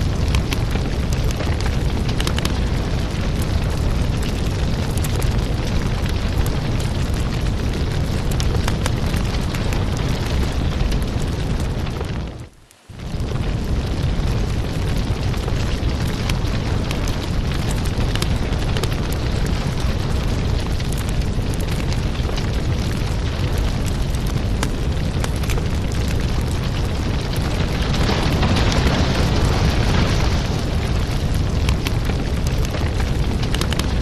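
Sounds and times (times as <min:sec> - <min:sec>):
burning wood crackling and popping: 0:00.0 - 0:34.0
fire flames rumbling: 0:00.0 - 0:34.0.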